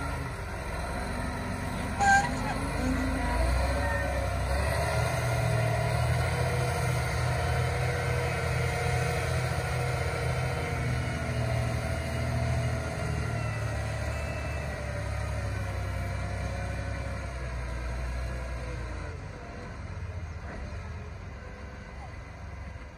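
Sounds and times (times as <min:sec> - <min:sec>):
tractor diesel engine under load: 0:00.0 - 0:22.9.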